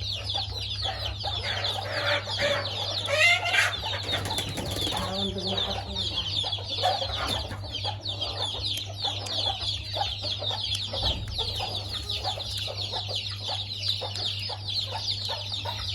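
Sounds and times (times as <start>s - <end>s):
chickens clucking: 0.0s - 15.9s
chicks peeping: 0.0s - 15.9s.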